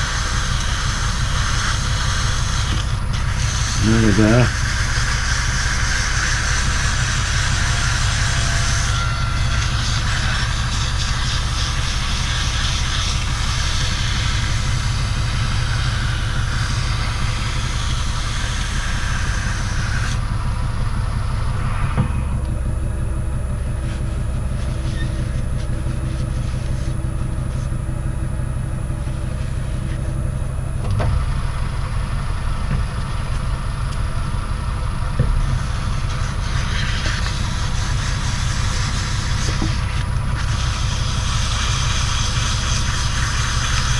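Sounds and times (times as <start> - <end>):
metal lathe humming: 0.0 - 43.9.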